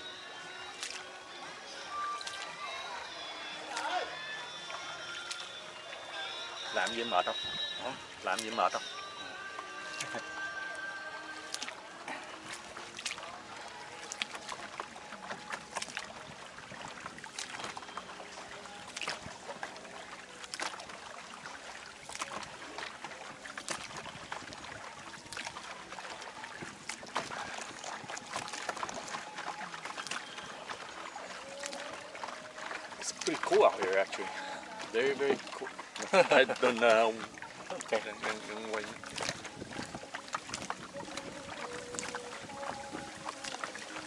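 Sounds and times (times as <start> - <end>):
paddle splashes and knocks: 0.0 - 44.0
water washing: 0.0 - 44.0.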